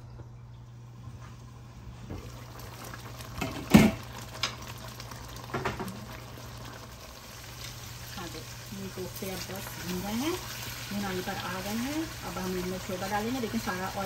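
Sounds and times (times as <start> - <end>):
low steady hum: 0.0 - 14.0
curry bubbling in a pan: 2.1 - 14.0.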